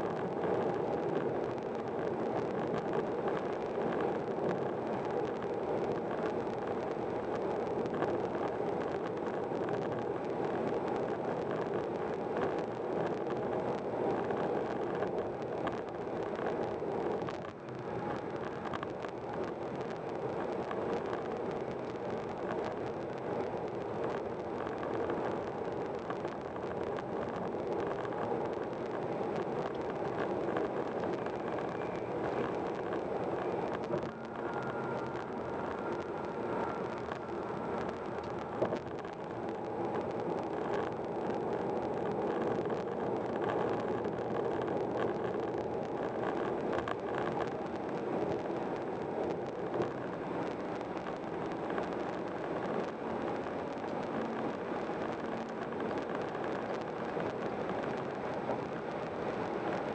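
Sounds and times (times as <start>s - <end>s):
tyre and wind noise in car: 0.0s - 59.9s.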